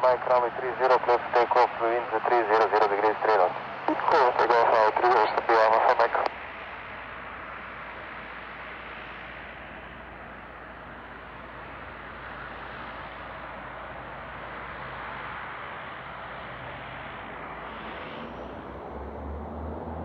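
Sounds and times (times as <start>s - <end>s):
airliner engines at takeoff: 0.0s - 20.0s.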